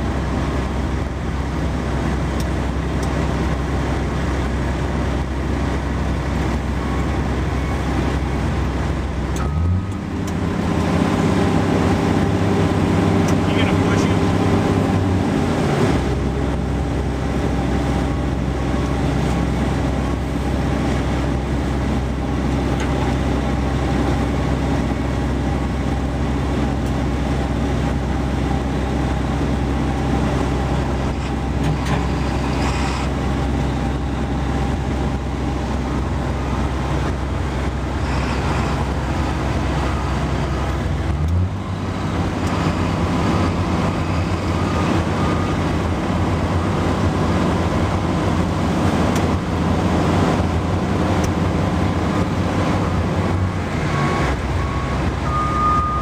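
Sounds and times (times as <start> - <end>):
excavator diesel engine running: 0.0 - 56.0
heavy machine noise: 0.0 - 56.0.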